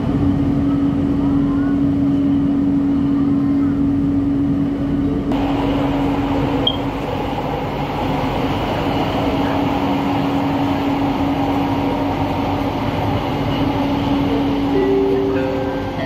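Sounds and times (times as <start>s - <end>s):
train running gear rumble: 0.0s - 16.0s.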